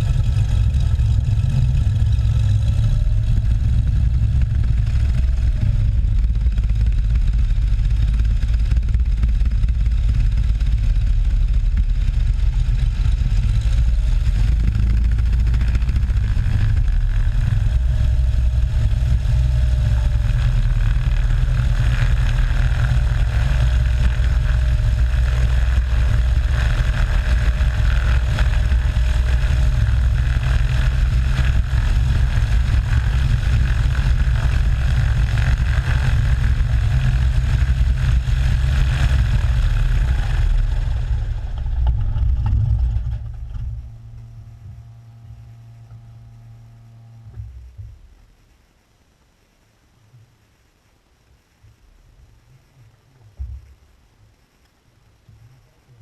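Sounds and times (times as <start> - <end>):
propeller plane engine droning: 0.0 - 48.2.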